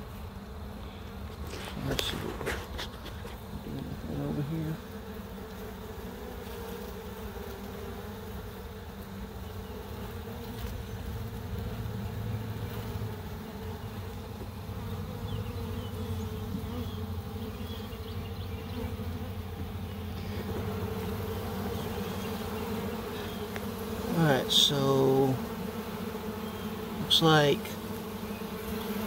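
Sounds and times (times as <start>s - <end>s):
honey bees buzzing: 0.0s - 29.0s.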